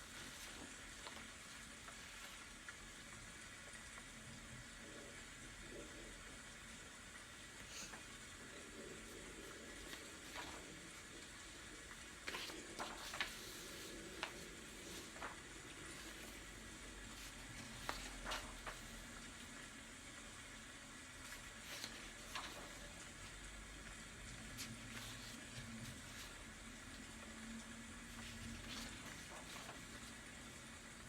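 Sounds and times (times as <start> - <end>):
rain hiss: 0.0 - 31.0.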